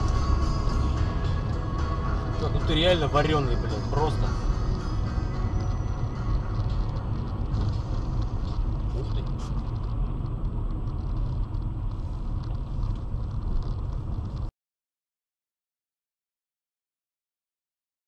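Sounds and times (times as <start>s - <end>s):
car engine and tyres rumbling: 0.0s - 14.5s.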